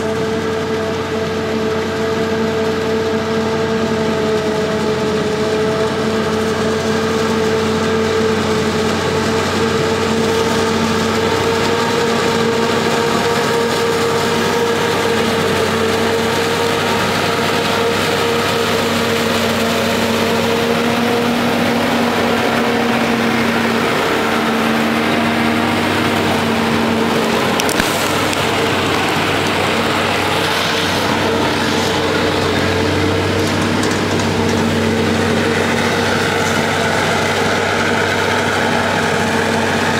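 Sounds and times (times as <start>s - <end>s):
farm machinery engines droning: 0.0s - 39.9s
steady machine whine: 0.0s - 39.9s.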